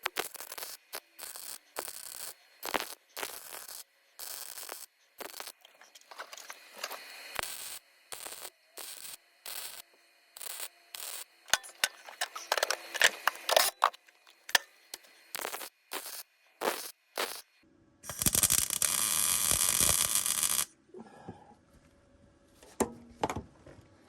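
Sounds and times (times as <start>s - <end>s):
welder stitch-welding sheet steel: 0.0s - 20.7s.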